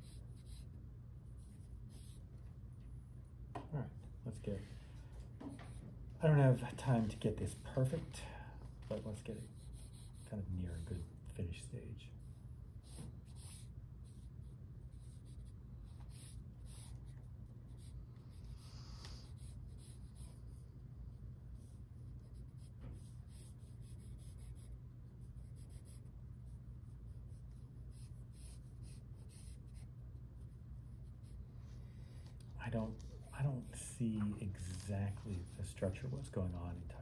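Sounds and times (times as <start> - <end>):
pencil scratching on paper: 0.0 - 2.3, 5.4 - 8.2, 8.9 - 11.6, 12.2 - 20.6, 21.6 - 37.0
steady low hum: 0.0 - 37.0.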